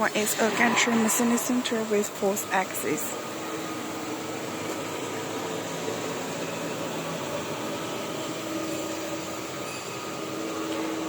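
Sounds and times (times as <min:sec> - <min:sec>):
faint hum tones: 0:00.0 - 0:11.0.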